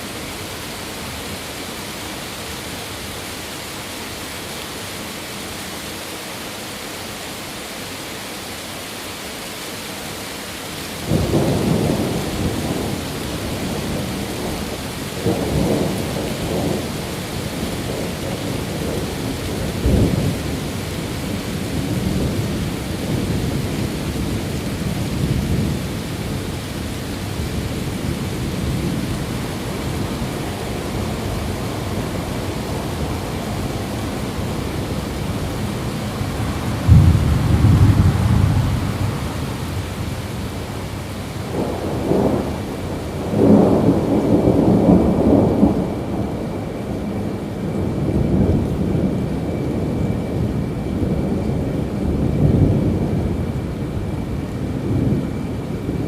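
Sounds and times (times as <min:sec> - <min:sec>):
steady rain hiss: 0:00.0 - 0:56.0
thunder clap and rumble: 0:11.0 - 0:56.0.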